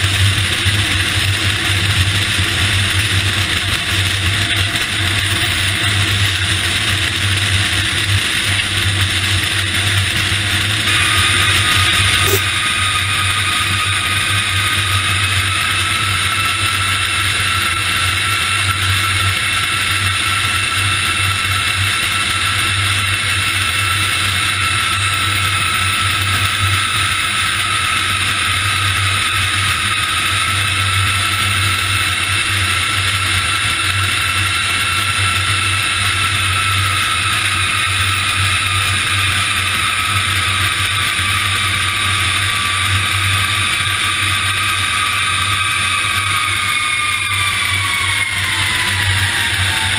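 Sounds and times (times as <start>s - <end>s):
jet engine and airflow rush: 6.1s - 49.9s.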